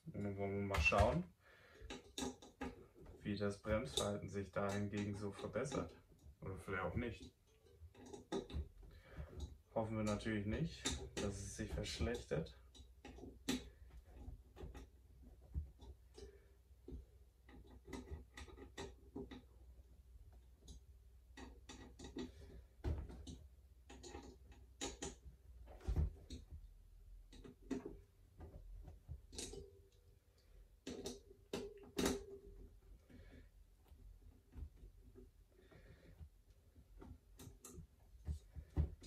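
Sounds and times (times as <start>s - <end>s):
hand tools clicking and tapping: 0.0s - 39.0s.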